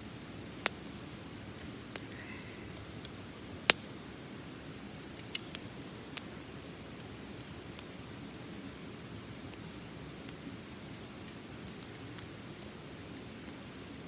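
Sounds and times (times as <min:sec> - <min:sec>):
small wood fire crackling: 0:00.0 - 0:14.0.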